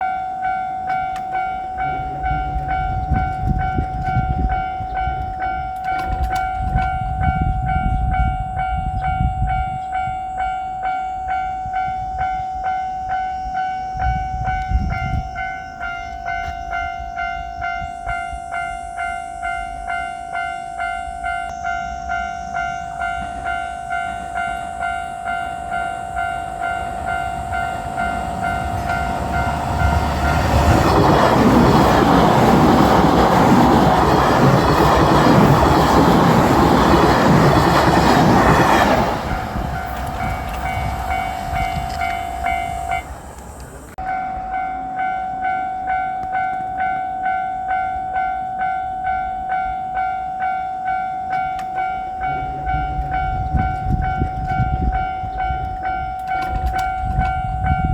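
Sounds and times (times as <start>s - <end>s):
electric train passing: 0.0s - 57.9s
level-crossing warning bell clanging: 0.0s - 57.9s.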